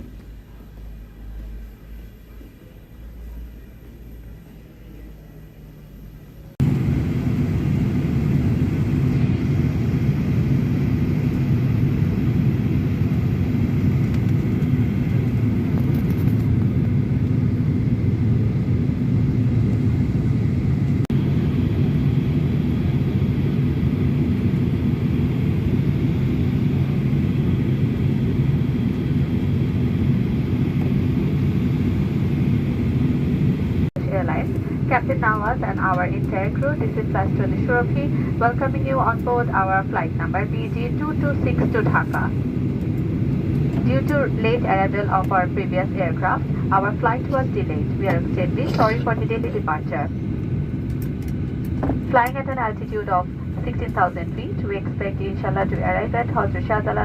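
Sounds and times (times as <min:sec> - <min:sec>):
airliner engine rumble in cabin: 0:00.0 - 0:57.0.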